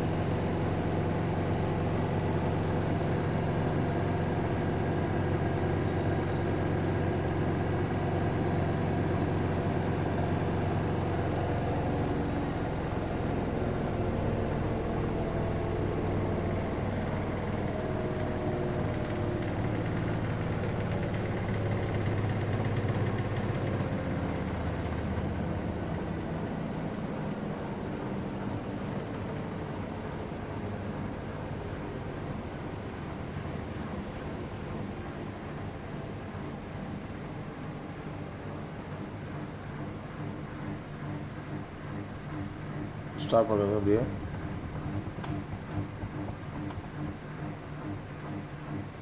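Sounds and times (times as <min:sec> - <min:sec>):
washing machine spinning: 0:00.0 - 0:49.0.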